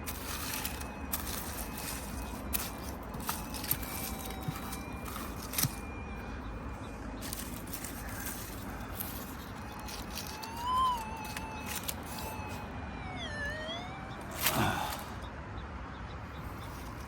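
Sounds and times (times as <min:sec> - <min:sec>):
metal detector electronic tone: 0:00.1 - 0:06.6, 0:07.2 - 0:15.0.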